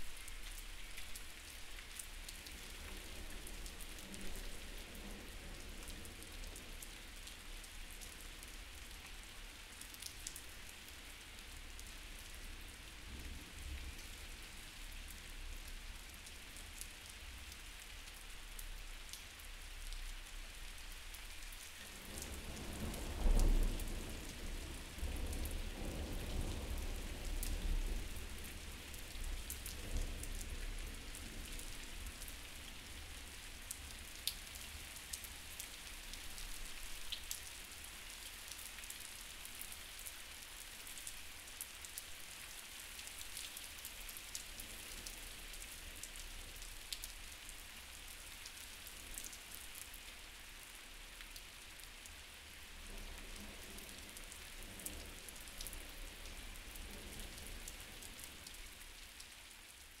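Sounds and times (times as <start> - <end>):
steady rain hiss: 0.0 - 60.0.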